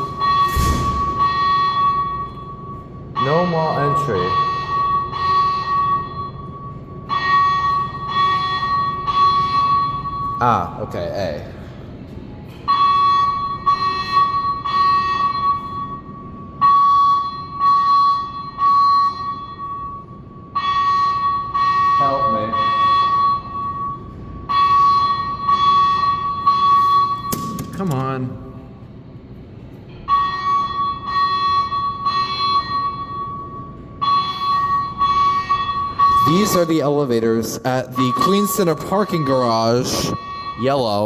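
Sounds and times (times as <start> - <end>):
fire alarm long beeps: 0.0 - 11.8, 12.5 - 41.0.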